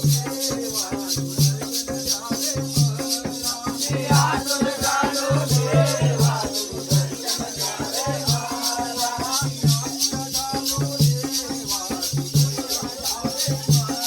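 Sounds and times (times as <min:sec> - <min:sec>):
high jingling rhythm: 0:00.0 - 0:14.0.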